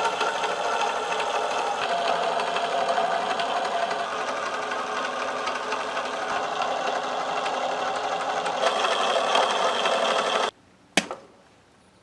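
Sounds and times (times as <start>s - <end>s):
small electric pump whirring: 0.0s - 10.5s.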